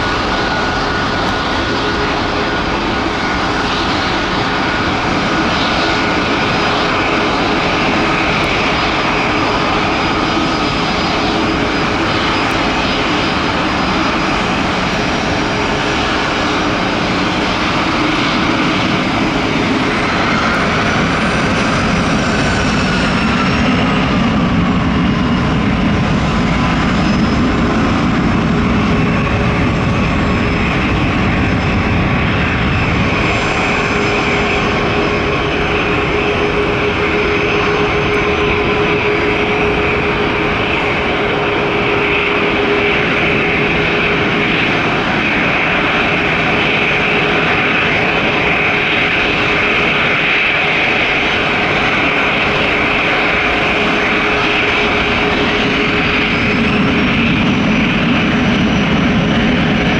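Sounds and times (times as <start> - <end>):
high engine whine: 0.0 - 59.9
jet engines running: 0.0 - 59.9.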